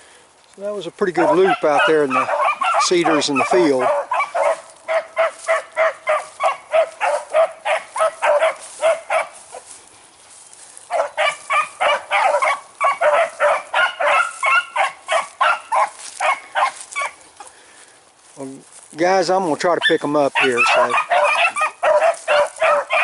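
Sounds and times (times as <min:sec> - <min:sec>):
beagles baying: 0:01.1 - 0:17.8, 0:19.5 - 0:23.0.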